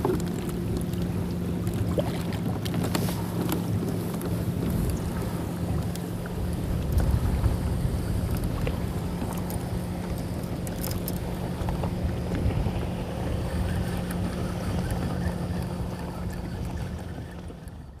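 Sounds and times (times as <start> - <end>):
steady low hum: 0.0 - 18.0
water lapping against hull: 0.0 - 18.0
wind buffeting microphone: 0.0 - 18.0.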